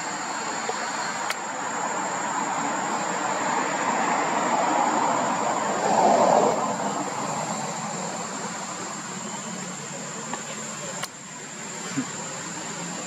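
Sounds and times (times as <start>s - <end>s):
high-pitched insect drone: 0.0s - 13.0s
outdoor hiss: 0.0s - 13.0s.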